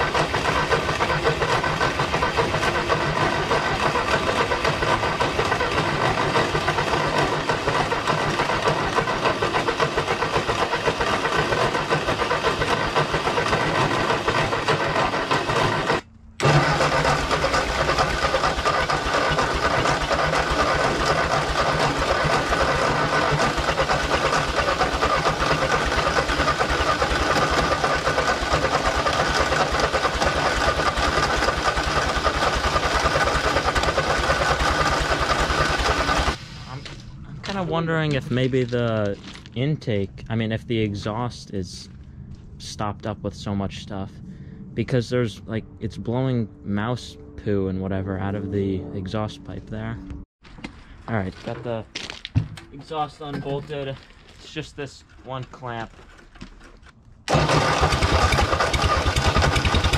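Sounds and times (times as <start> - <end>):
tractor engine running: 0.0 - 41.3, 51.0 - 59.9.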